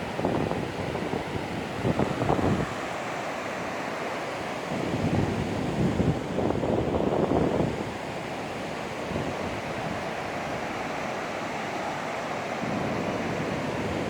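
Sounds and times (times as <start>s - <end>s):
wind buffeting microphone: 0.0s - 3.1s, 4.7s - 14.0s
ocean surf washing in: 0.0s - 14.0s.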